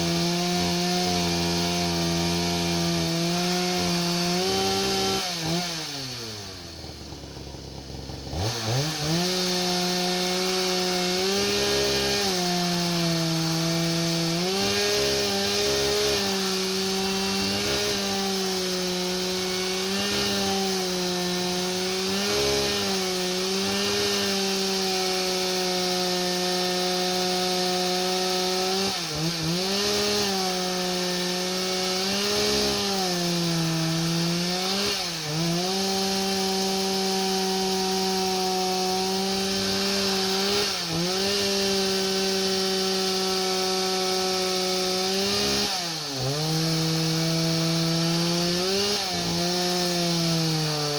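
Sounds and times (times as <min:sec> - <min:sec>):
chainsaw cutting log: 0:00.0 - 0:50.9.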